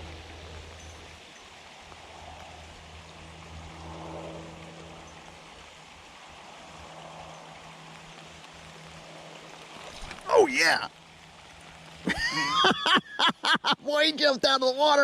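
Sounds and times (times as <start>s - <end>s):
rain falling on water: 0.0s - 15.0s.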